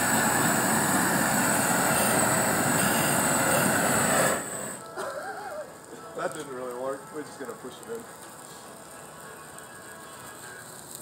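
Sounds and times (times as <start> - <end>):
blow torch hissing: 0.0 - 11.0.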